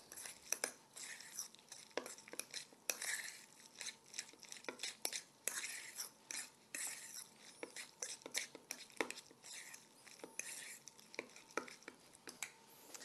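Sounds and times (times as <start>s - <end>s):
fork mashing in metal bowl: 0.0s - 13.0s.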